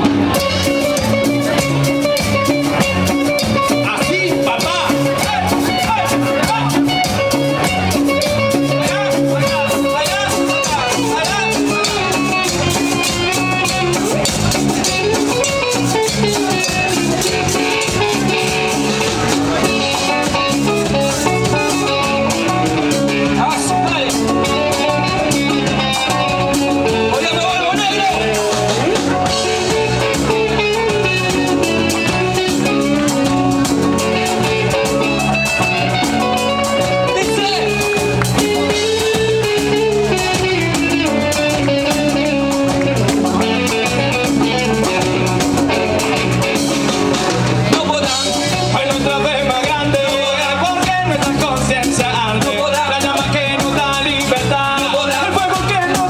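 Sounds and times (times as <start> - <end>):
cumbia band playing: 0.0 - 56.0
electric guitar melody: 0.0 - 56.0.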